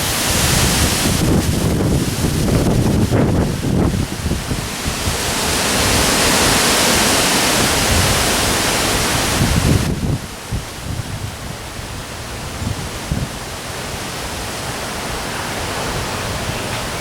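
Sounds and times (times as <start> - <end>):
heavy rain: 0.0 - 17.0
storm wind: 0.0 - 17.0
wind buffeting microphone: 0.0 - 17.0.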